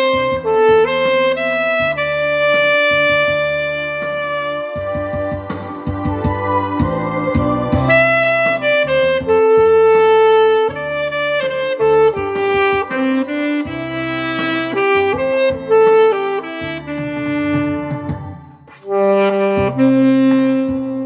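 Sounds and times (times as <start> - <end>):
alto saxophone melody: 0.0 - 21.0
backing accompaniment with bass: 0.0 - 21.0.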